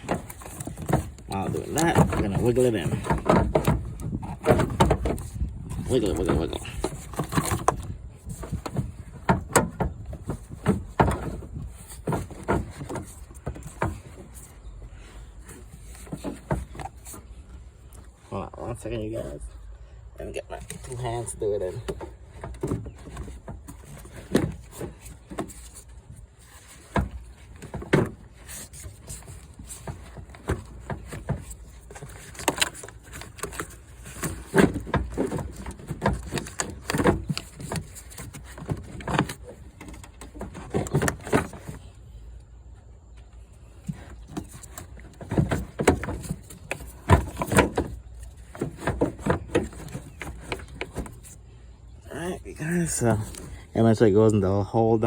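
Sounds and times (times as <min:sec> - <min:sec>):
plastic parts knocking and scraping: 0:00.0 - 0:19.6, 0:20.4 - 0:54.0.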